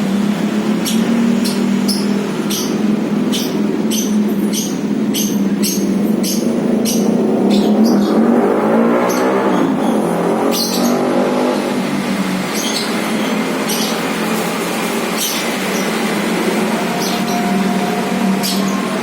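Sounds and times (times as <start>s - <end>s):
vehicle engine running: 0.0s - 19.0s
bird chirping: 0.2s - 19.0s.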